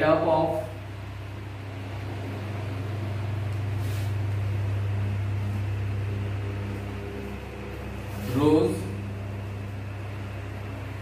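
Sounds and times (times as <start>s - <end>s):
low hum of room equipment: 0.0s - 11.0s.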